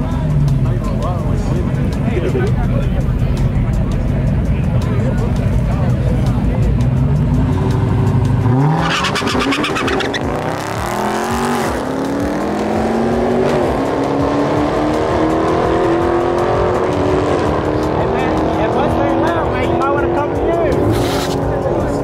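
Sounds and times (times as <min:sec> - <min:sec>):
drag car engines revving: 0:00.0 - 0:22.0.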